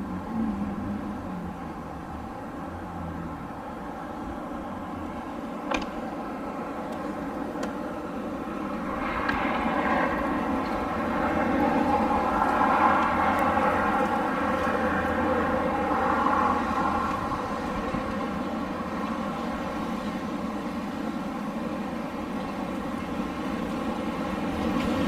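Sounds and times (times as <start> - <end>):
wind blowing: 0.0 - 25.0.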